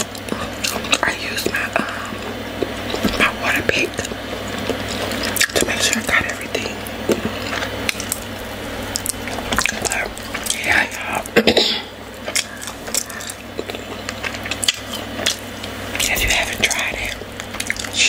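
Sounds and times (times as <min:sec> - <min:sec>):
lip smacks and chewing: 0:00.0 - 0:11.4, 0:12.2 - 0:18.0
wet squishes of dough: 0:00.0 - 0:11.4, 0:12.2 - 0:18.0.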